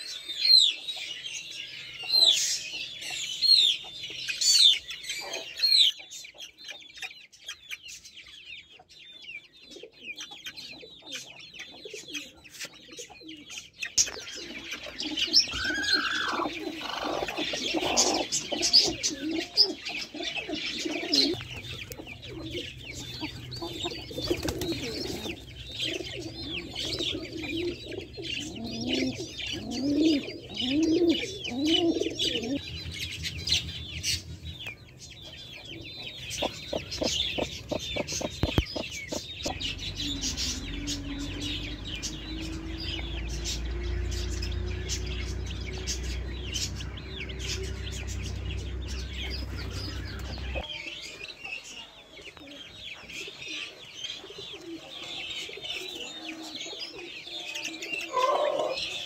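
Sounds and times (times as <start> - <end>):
adult birds calling: 0.0 - 59.0
chicks peeping: 0.0 - 59.0.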